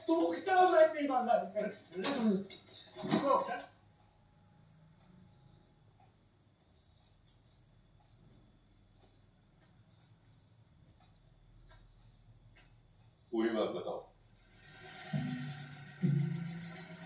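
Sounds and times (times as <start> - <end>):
crickets chirping through tv speaker: 0.0 - 17.0.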